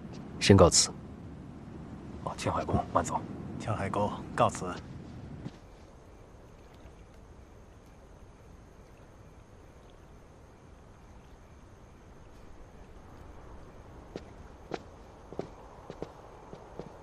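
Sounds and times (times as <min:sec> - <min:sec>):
faint background ambience: 0:00.0 - 0:17.0.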